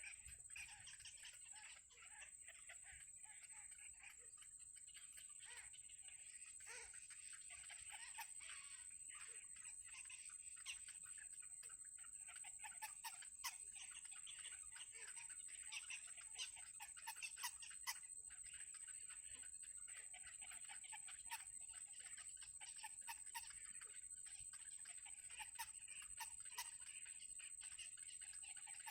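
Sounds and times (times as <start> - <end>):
baby birds peeping: 0.0 - 28.9.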